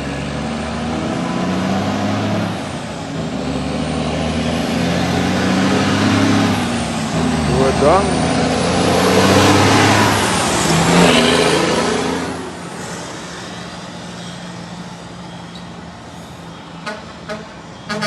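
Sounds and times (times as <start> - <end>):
truck driving past: 0.0 - 18.0.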